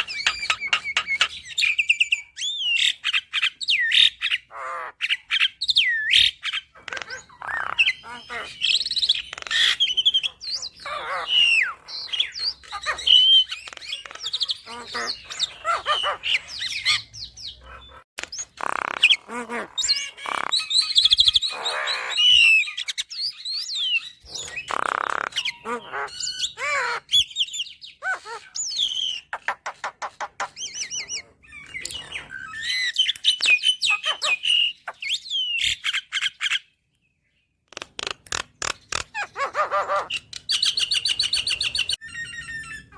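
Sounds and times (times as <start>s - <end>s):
bird singing varied song: 0.0s - 42.9s.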